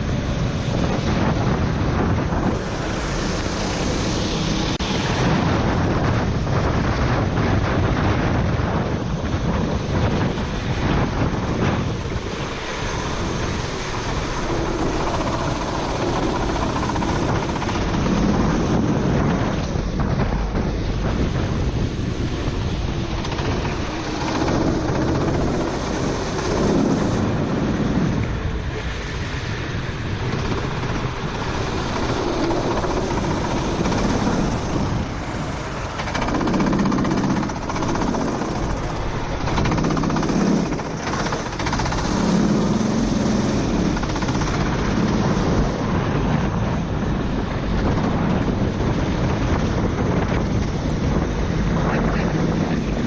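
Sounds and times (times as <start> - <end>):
hiss of wind and spray: 0.0 - 53.0.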